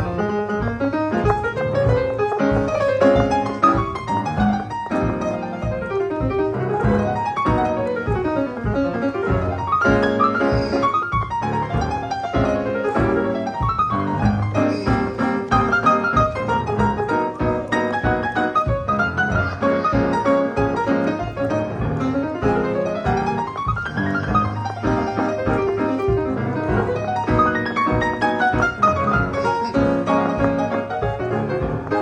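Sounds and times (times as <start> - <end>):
piano solo with fast runs: 0.0 - 32.0.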